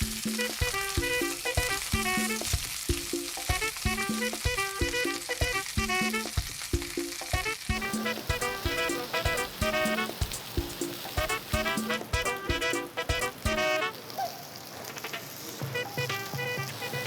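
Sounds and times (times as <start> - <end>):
plucked melody over a beat: 0.0 - 13.8
pork sizzling on a grill: 0.0 - 17.0.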